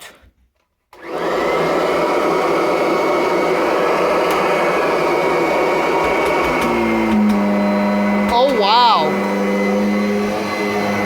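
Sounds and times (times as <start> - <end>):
vacuum cleaner whining: 0.9 - 11.0.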